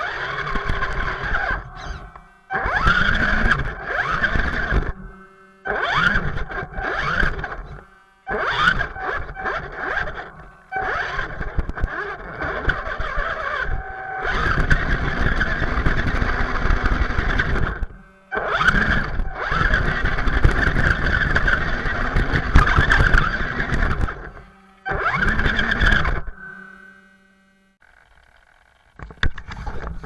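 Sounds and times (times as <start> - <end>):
electric motor and gears whirring: 0.0 - 30.0.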